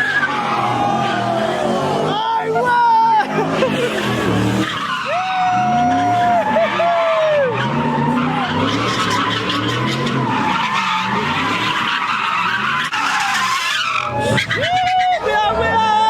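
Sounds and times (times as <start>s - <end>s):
car engine revving: 0.0s - 14.8s
tyres screeching: 0.0s - 15.8s.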